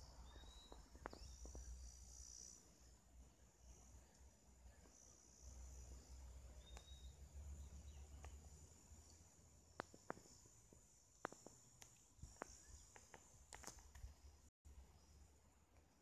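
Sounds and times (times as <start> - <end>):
insects trilling: 0.0 - 14.3.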